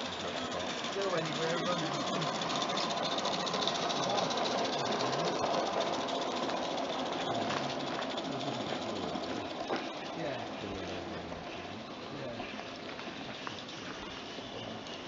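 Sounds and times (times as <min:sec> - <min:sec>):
model steam locomotive chuffing: 0:00.0 - 0:15.0
wheels clicking on rails: 0:00.0 - 0:15.0.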